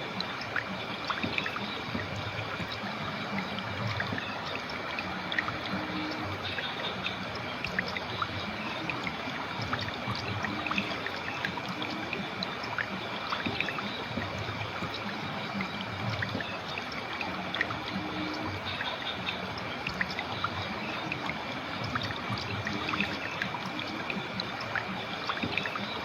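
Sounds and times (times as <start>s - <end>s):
river water flowing: 0.0s - 26.0s
small water splashes: 0.0s - 26.0s.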